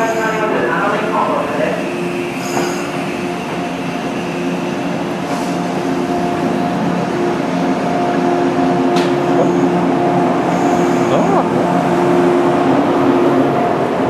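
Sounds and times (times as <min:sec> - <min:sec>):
electric train humming past: 0:00.0 - 0:14.0.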